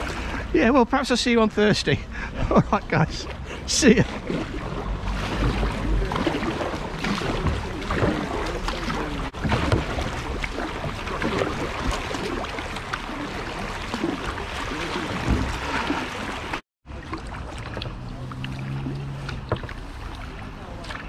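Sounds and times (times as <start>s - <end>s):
paddle strokes splashing water: 0.0s - 0.6s, 1.6s - 21.0s.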